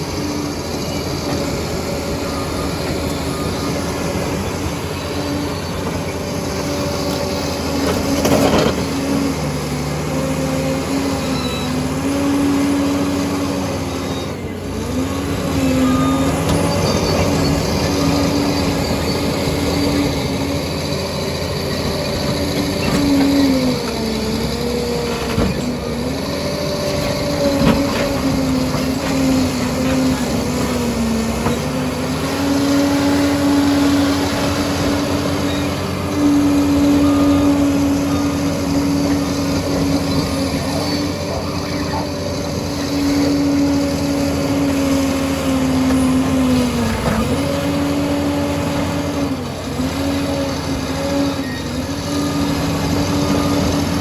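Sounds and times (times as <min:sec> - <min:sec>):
dozer diesel engine under load: 0:00.0 - 0:54.0.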